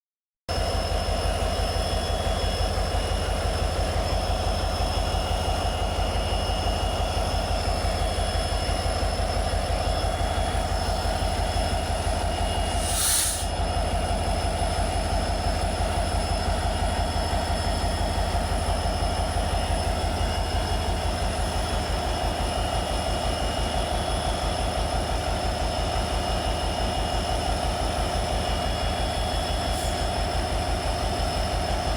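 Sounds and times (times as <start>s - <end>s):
diesel locomotive engine running: 0.5s - 31.9s.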